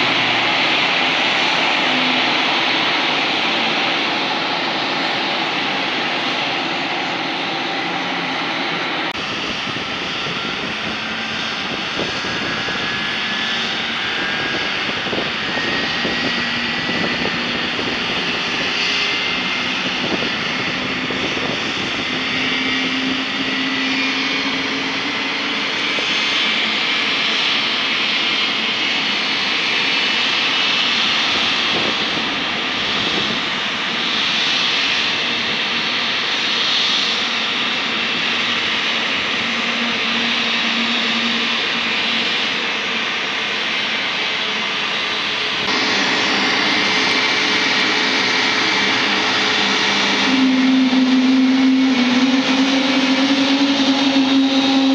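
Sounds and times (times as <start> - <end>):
jet engines whining while taxiing: 0.0 - 54.9.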